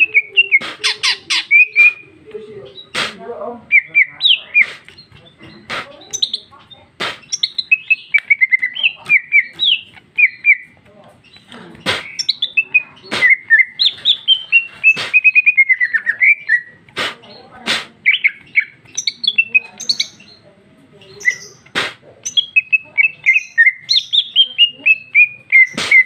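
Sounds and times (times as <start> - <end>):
bird singing chirping notes: 0.0 - 3.0, 3.6 - 26.0.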